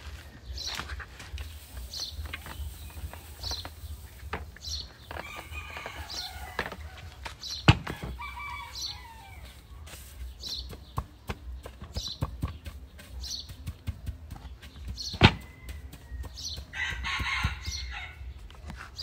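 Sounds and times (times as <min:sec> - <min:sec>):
dry husks rustling: 0:00.0 - 0:19.0.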